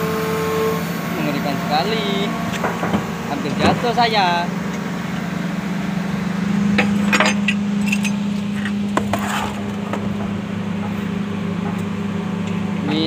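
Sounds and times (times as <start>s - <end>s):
excavator diesel engine idling: 0.0s - 13.0s.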